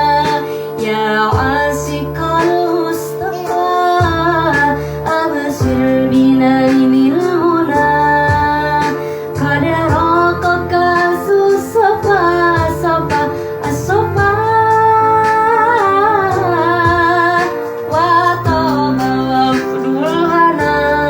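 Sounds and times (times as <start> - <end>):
instrumental accompaniment: 0.0 - 21.0
woman singing devotional song: 0.0 - 21.0.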